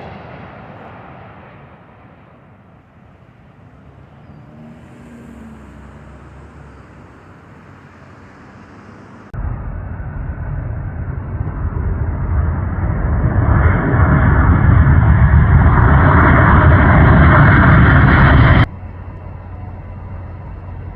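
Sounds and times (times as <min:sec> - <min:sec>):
jet airliner engine rumble: 0:00.0 - 0:05.0, 0:06.2 - 0:20.9.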